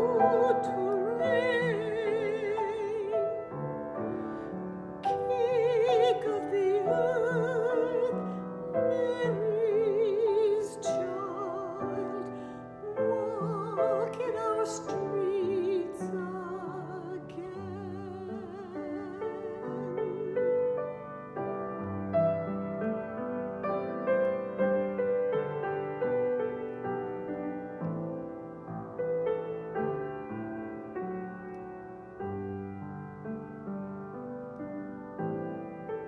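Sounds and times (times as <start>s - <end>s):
piano accompaniment: 0.0s - 36.0s.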